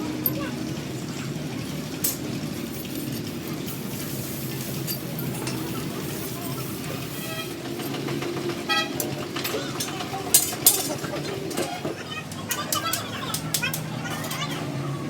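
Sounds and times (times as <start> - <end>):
vehicle engines droning: 0.0 - 15.0.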